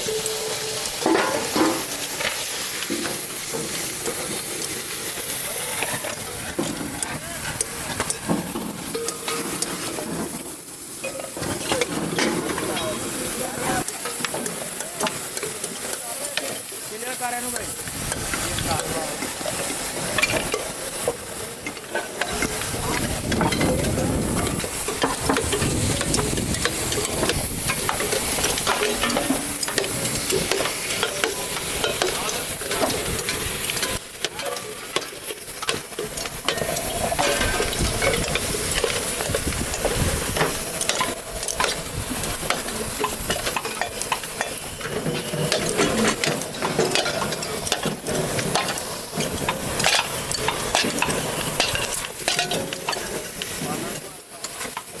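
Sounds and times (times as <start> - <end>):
steady crackling hiss: 0.0 - 55.0.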